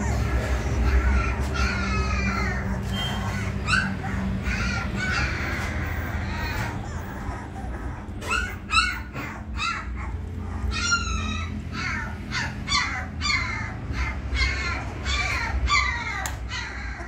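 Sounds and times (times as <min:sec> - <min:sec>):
puppies whining and squealing: 0:00.0 - 0:17.0.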